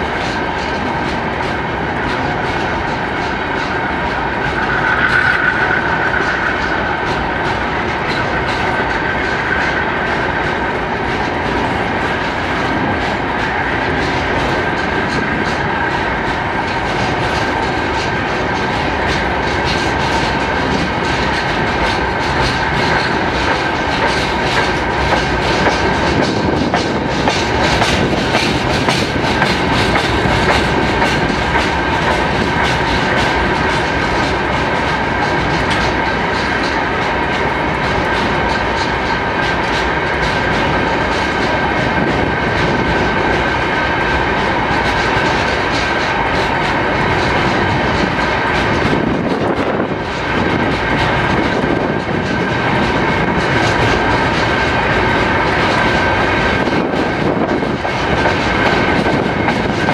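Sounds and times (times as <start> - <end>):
train wheels clattering over rail joints: 0.0 - 59.9.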